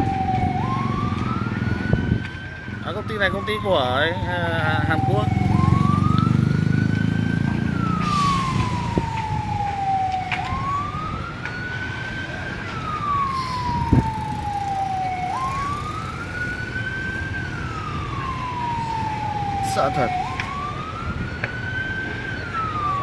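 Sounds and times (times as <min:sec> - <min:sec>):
siren wailing: 0:00.0 - 0:23.0.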